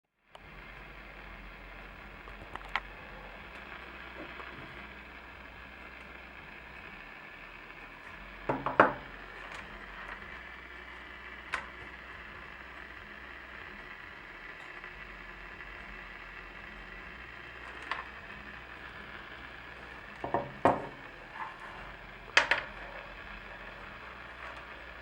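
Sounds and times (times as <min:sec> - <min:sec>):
radio speaker buzzing: 0:00.3 - 0:25.0.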